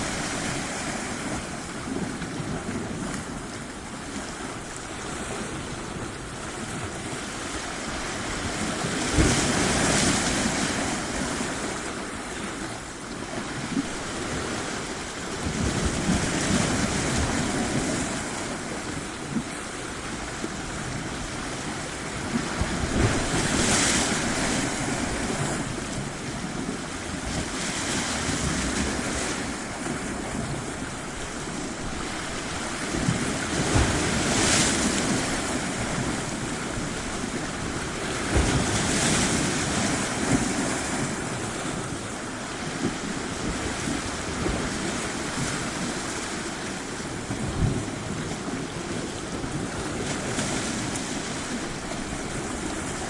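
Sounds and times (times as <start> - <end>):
surf washing onto shore: 0.0 - 53.0
wind on microphone: 0.0 - 53.0.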